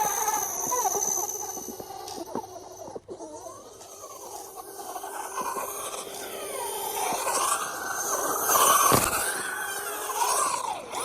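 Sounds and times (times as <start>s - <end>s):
rc truck electric motor whining: 0.0s - 11.0s.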